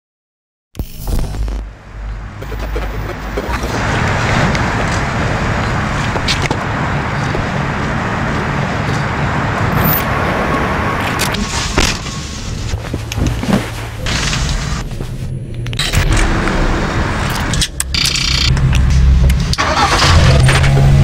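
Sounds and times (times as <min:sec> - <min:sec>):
deep low rumble: 0:00.8 - 0:21.0.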